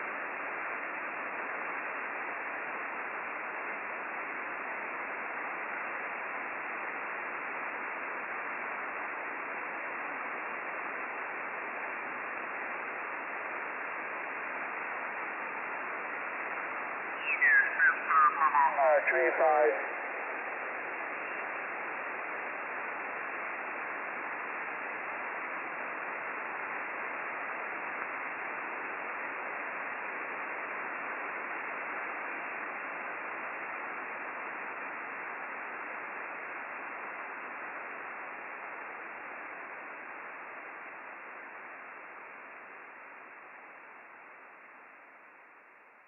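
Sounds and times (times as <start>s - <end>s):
radio static hiss: 0.0s - 46.0s.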